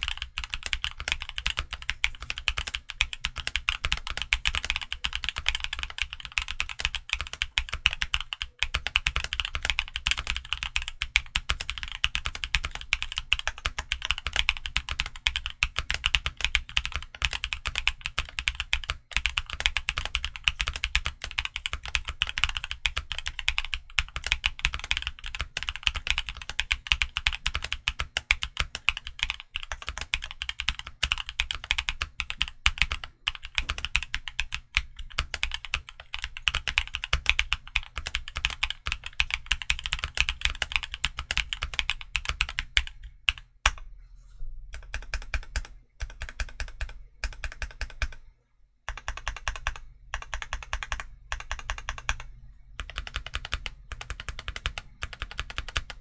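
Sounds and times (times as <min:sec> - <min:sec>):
mechanical keyboard typing: 0:00.0 - 0:43.8, 0:44.7 - 0:48.2, 0:48.9 - 0:56.0.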